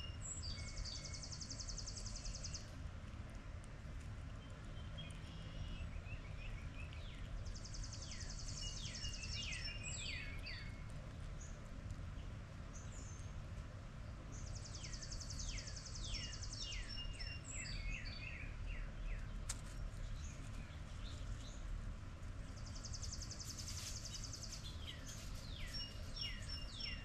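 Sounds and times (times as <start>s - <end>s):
songbird trilling song: 0.0s - 2.8s, 4.3s - 11.6s, 12.2s - 13.4s, 14.1s - 21.7s, 22.4s - 27.0s
low background rumble: 0.0s - 27.0s.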